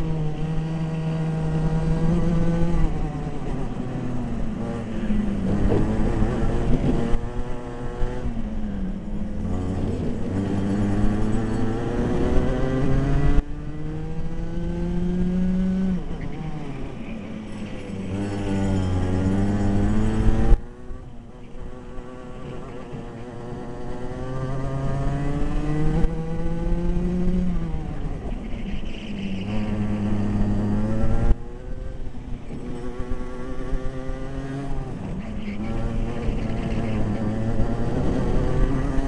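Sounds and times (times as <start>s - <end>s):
racing kart engine: 0.0s - 39.0s.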